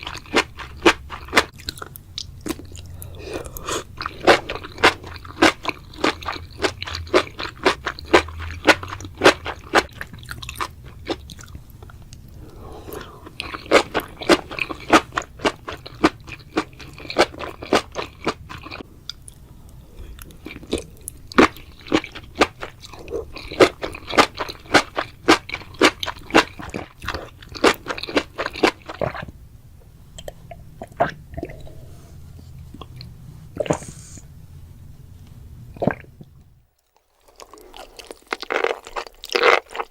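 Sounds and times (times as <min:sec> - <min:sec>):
crunching and chewing: 0:00.0 - 0:19.4, 0:20.0 - 0:29.3, 0:36.8 - 0:39.9.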